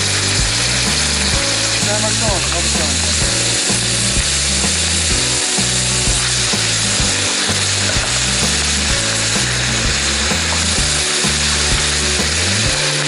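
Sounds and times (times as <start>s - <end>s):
background music bass line: 0.0s - 13.0s
food sizzling in a frying pan: 0.0s - 13.0s.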